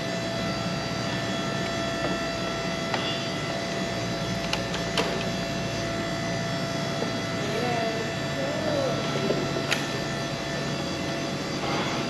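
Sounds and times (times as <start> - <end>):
boom lift motor humming: 0.0 - 12.0.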